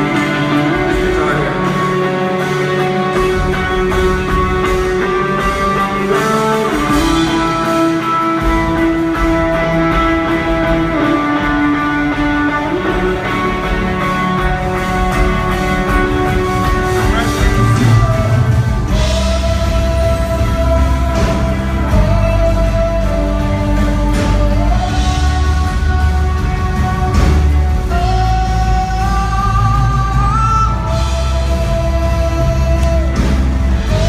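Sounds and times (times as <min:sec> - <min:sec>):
guitar-led band music: 0:00.0 - 0:34.0
steady bass: 0:00.0 - 0:34.0.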